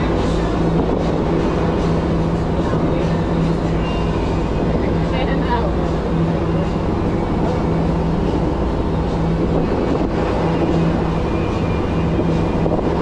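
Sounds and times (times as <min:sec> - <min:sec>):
boat engines droning: 0:00.0 - 0:13.0
water rushing: 0:00.0 - 0:13.0
wind: 0:00.0 - 0:13.0.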